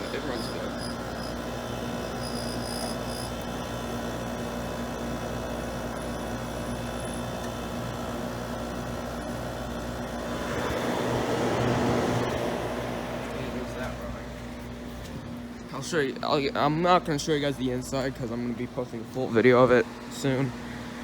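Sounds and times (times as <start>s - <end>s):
air conditioner compressor humming: 0.0s - 21.0s
fan rushing: 0.0s - 21.0s.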